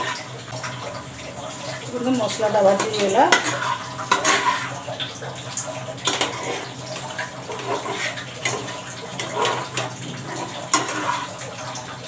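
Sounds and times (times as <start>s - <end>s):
spatula scraping a frying pan: 0.0s - 0.9s, 1.5s - 5.1s, 5.9s - 12.0s
water sizzling in hot pan: 0.0s - 12.0s.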